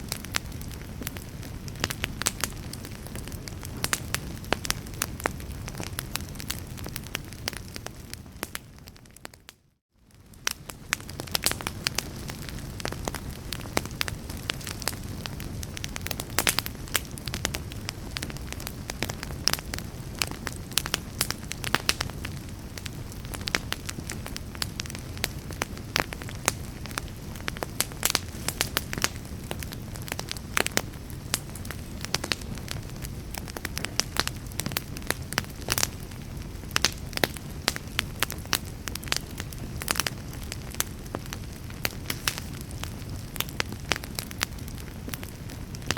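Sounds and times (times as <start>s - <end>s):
fire popping and snapping: 0.0s - 45.9s
low rumble of flames: 0.0s - 45.9s.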